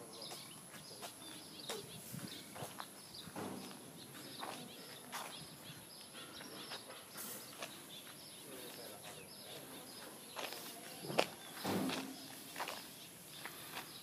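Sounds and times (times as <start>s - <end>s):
high bird chirps: 0.0s - 14.0s
footsteps: 0.2s - 14.0s.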